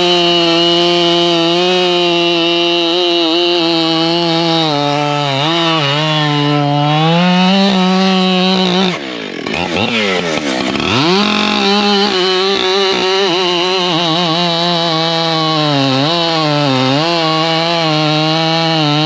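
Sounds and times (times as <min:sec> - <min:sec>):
chainsaw cutting at high revs: 0:00.0 - 0:19.0.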